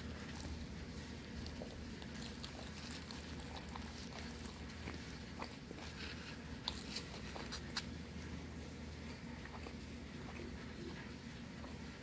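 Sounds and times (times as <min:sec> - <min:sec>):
close-up chewing: 0:00.0 - 0:12.0
steady low hum: 0:00.0 - 0:12.0.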